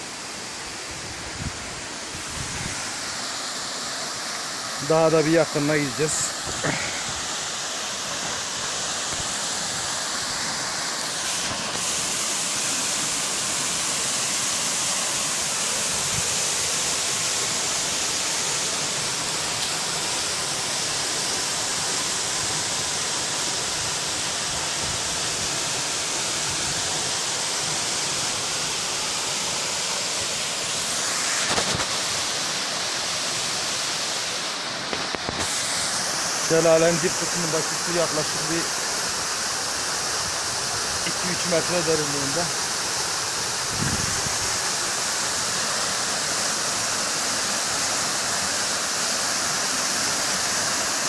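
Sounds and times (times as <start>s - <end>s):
waterfall splashing into pool: 2.7s - 51.0s.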